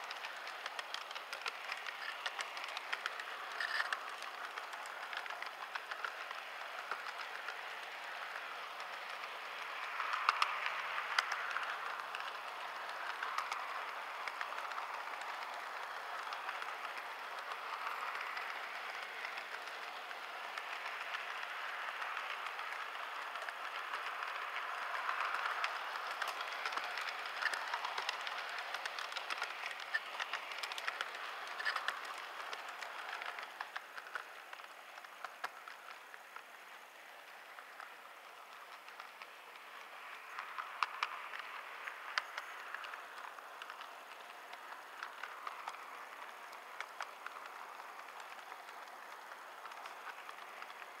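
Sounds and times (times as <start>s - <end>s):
model train whirring rattle: 0.0s - 51.0s.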